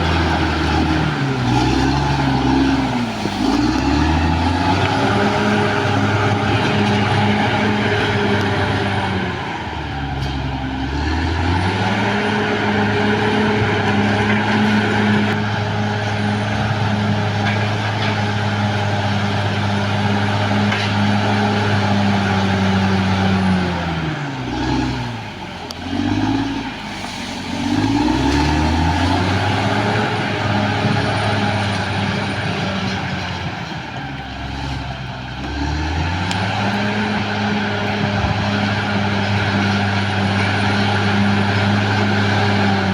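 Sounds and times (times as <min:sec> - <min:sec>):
bulldozer diesel engine working hard: 0:00.0 - 0:42.9.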